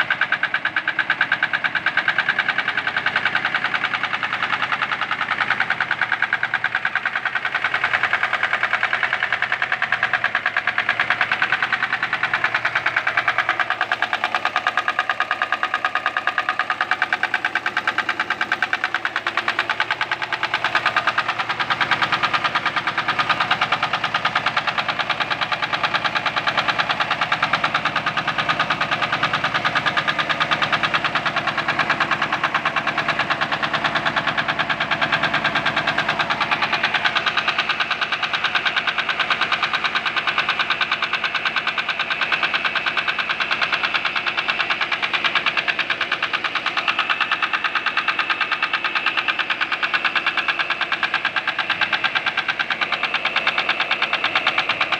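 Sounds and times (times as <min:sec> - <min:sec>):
car engine running: 0:00.0 - 0:54.9
rapid engine knock: 0:00.0 - 0:54.9.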